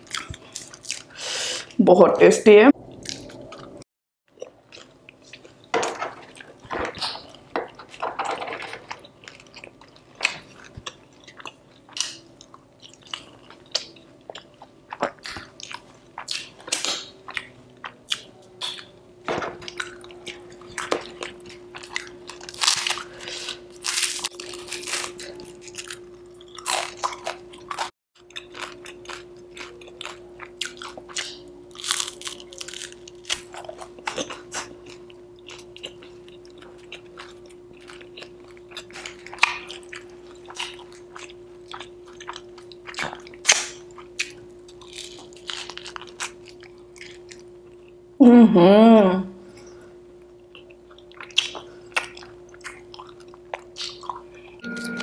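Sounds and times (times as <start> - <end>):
chewing and crunching: 0.0 - 1.2, 2.9 - 19.0, 19.6 - 48.0, 49.5 - 54.6.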